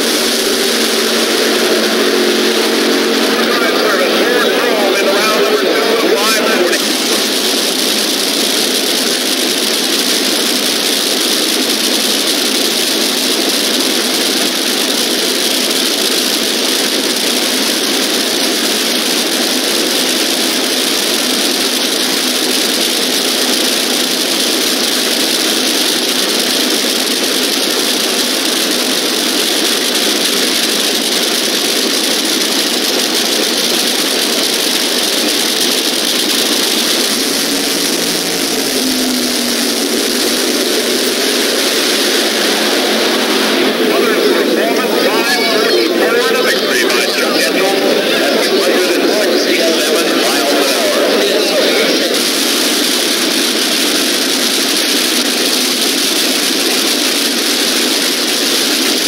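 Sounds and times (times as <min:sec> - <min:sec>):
drag racing engines idling: 0:00.0 - 0:59.0.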